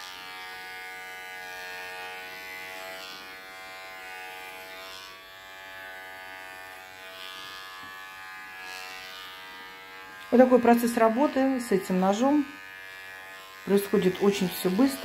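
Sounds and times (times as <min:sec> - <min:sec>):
electric clipper buzzing: 0:00.0 - 0:15.0.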